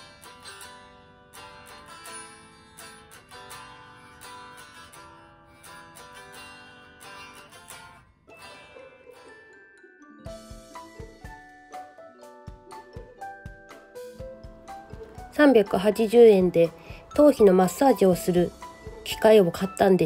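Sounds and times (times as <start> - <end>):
acoustic guitar plucked notes: 0.0 - 20.0.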